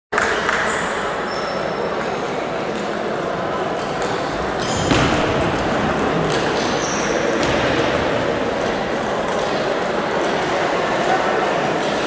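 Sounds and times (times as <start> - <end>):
echoing sports hall noise: 0.1 - 12.0.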